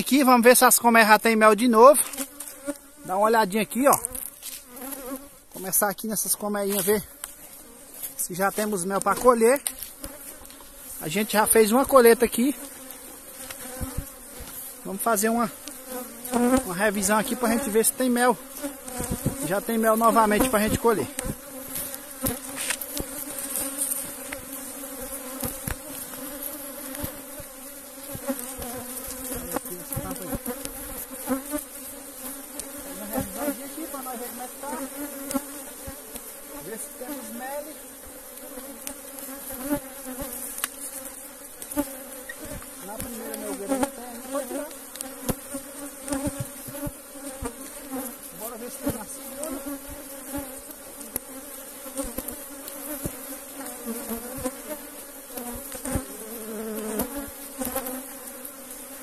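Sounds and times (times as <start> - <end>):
honeybee colony buzzing: 0.0 - 59.0.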